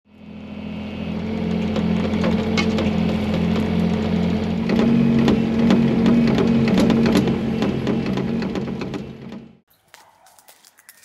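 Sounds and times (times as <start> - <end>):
excavator engine running: 0.1 - 9.7.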